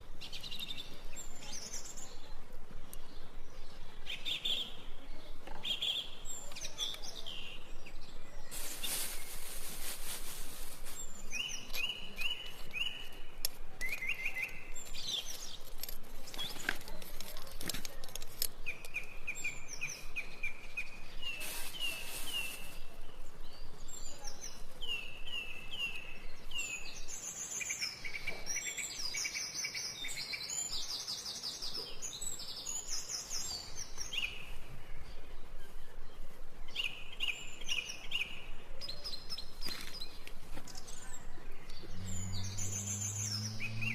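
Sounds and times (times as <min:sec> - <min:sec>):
birds chirping: 0:00.0 - 0:09.8, 0:10.4 - 0:43.9.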